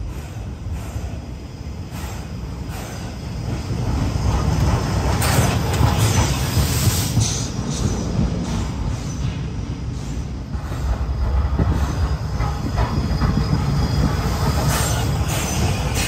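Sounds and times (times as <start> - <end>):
steam hissing: 0.0 - 16.0
steam train rumbling past: 0.0 - 16.0.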